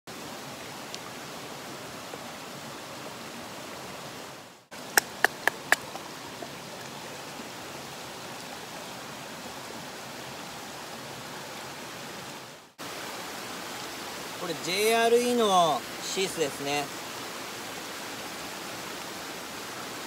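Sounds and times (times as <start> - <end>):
mountain stream rushing: 0.1 - 20.0.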